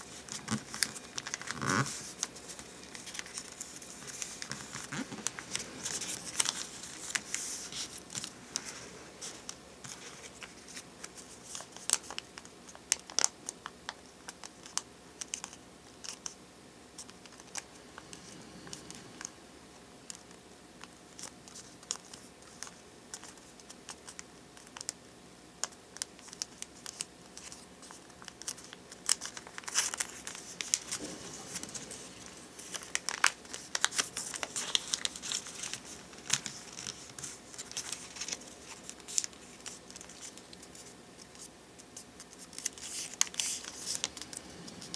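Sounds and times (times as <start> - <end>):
stiff paper crinkling and crackling: 0.0 - 16.4, 17.0 - 19.4, 20.0 - 25.0, 25.6 - 44.9.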